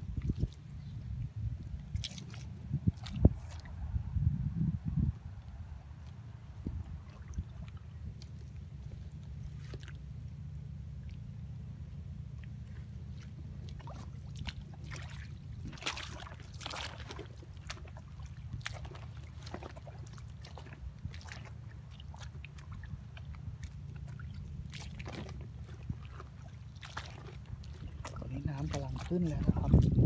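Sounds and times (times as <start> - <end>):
footsteps splashing in water: 0.0 - 3.9, 5.8 - 11.5, 12.3 - 30.0
low rumble: 0.0 - 30.0.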